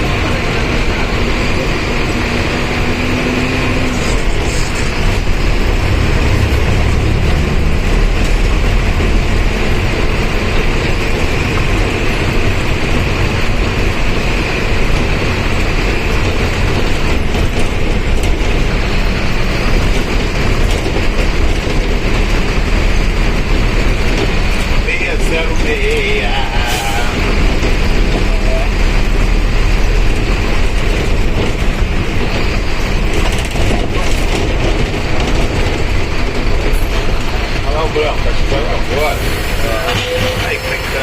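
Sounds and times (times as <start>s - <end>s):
bus engine and cooling fan: 0.0s - 41.0s
road rumble: 0.0s - 41.0s.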